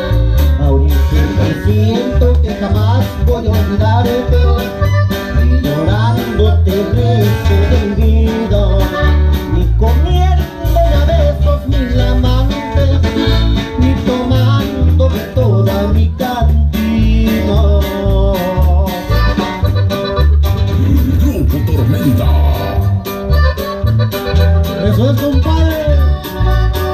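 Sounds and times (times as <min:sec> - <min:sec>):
live band through speaker: 0:00.0 - 0:26.9
person singing melody: 0:00.0 - 0:26.9
pulsing bass line: 0:00.0 - 0:26.9.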